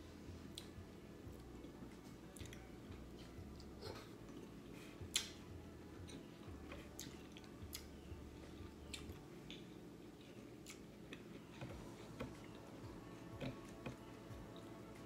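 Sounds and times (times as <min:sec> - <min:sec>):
person chewing food: 0:00.4 - 0:15.0.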